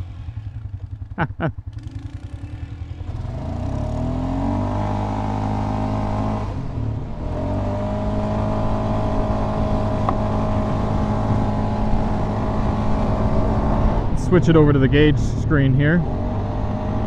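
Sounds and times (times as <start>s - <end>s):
atv engine under throttle: 0.0s - 17.0s.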